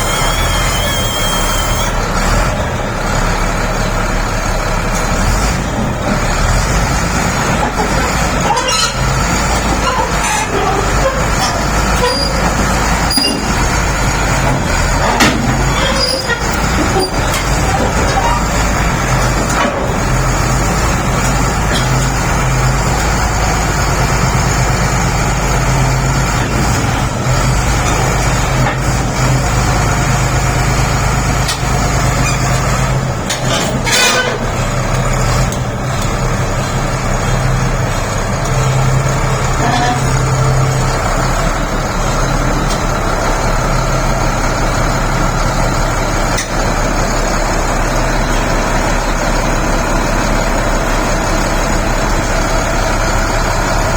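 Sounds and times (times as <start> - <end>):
bulldozer diesel engine drone: 0.0 - 53.9.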